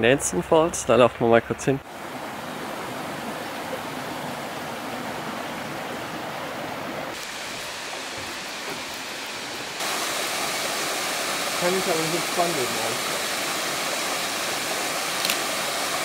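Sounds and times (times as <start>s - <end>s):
water rushing over rocks: 1.8s - 16.0s.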